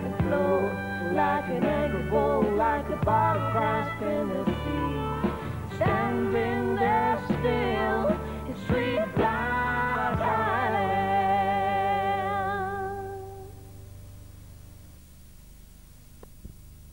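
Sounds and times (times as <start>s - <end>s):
faint tape hiss: 0.0s - 16.9s.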